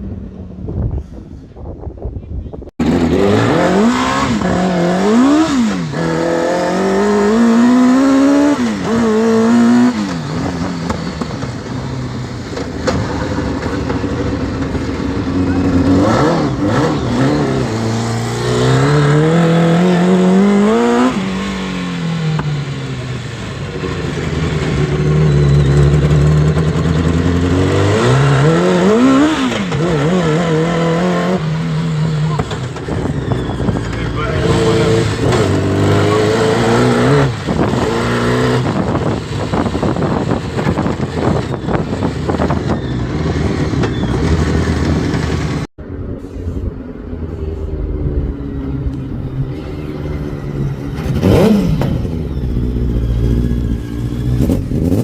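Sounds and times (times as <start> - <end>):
motorcycle engine revving: 2.8 - 46.1, 46.9 - 55.0.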